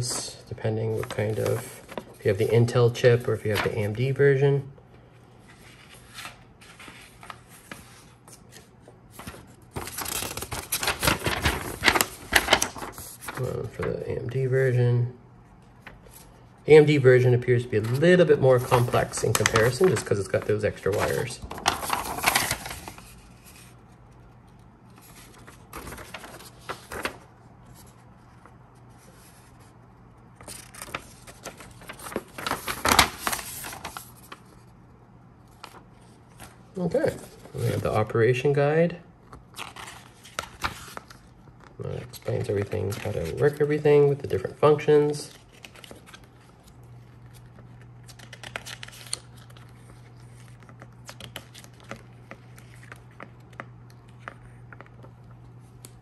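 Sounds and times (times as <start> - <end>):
paper rustling and crinkling: 0.0 - 4.1, 5.4 - 14.4, 17.6 - 34.8, 35.4 - 38.1, 39.2 - 56.0.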